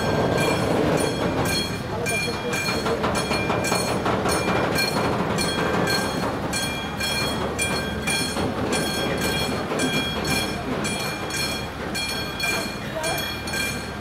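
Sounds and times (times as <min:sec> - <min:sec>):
level crossing warning bell: 0:00.0 - 0:14.0
train rumbling past: 0:00.0 - 0:14.0
wheels clacking over rail joints: 0:00.0 - 0:14.0.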